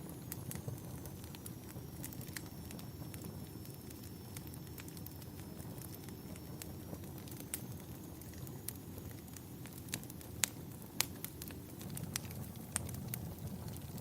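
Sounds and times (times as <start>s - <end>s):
burning wood crackling and popping: 0.0s - 14.0s
campfire flames rumbling: 0.0s - 14.0s.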